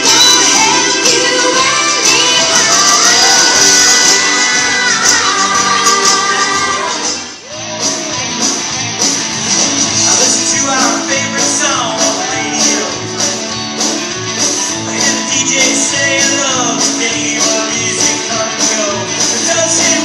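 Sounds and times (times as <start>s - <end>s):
rock song over loudspeakers: 0.0s - 20.0s.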